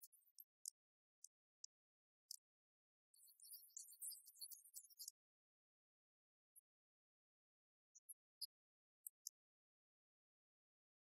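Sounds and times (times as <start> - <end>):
faint plastic toy clicks: 0.0 - 11.0.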